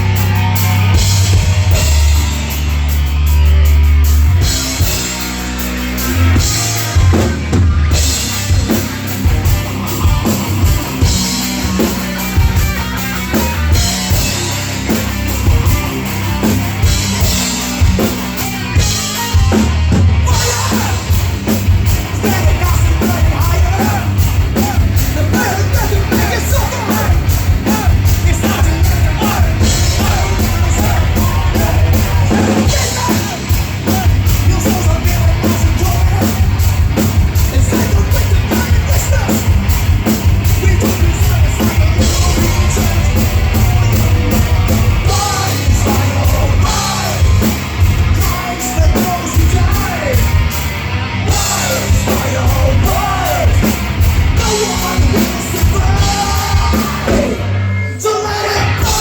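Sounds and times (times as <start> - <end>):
drum kit beat: 0.0 - 57.6, 58.5 - 59.0
rock band playing live: 0.0 - 59.0.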